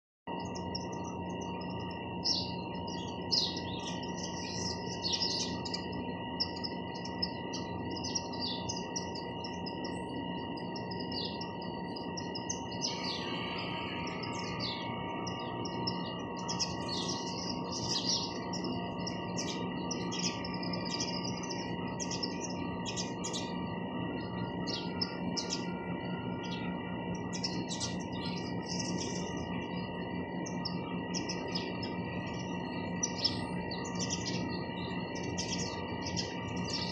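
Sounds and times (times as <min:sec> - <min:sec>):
sparrows chirping: 0:00.3 - 0:36.9
steady background hum: 0:00.3 - 0:36.9.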